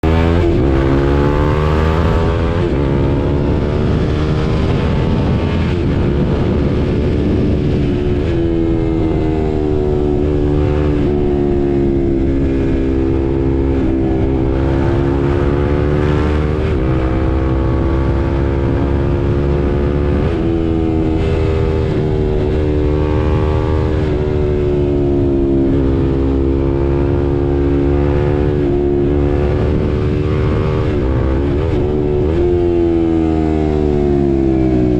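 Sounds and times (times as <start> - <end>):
motorcycle engine accelerating: 0.0 - 34.9
wind rumble: 0.0 - 34.9.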